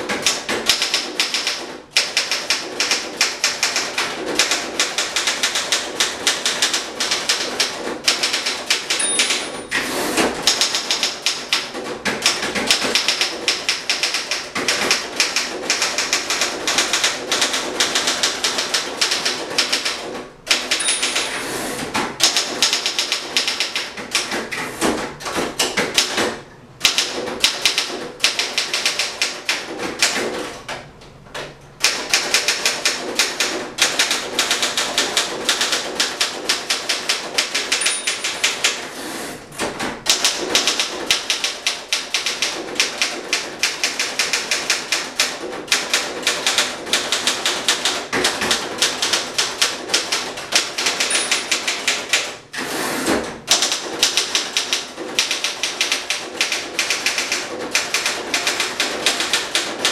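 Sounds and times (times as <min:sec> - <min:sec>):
typewriter carriage return: 0:00.0 - 0:59.9
typewriter keystroke clacks: 0:00.0 - 0:59.9.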